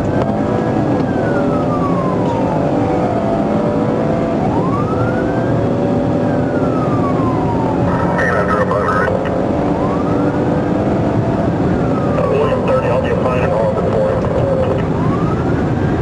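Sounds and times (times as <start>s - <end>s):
engine and road noise: 0.0s - 16.0s
police siren wailing: 0.0s - 16.0s.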